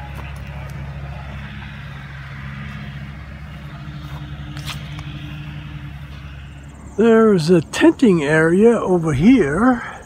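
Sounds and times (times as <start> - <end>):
motor vehicle engine hum: 0.0 - 10.0.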